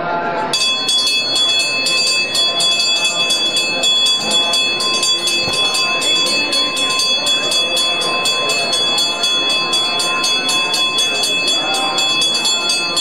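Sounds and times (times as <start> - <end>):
murmur of voices: 0.0 - 13.0
bell rung rapidly: 0.5 - 13.0.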